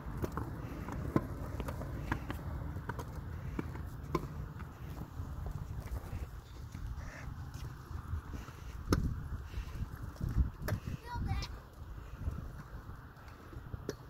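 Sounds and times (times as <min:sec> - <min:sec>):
kick scooter rumbling on concrete: 0:00.0 - 0:14.0.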